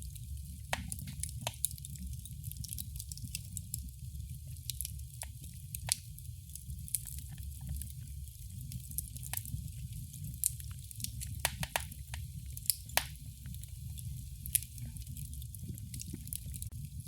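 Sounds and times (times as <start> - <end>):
low rumble of flames: 0.0 - 17.0
wood fire popping and snapping: 0.0 - 17.0.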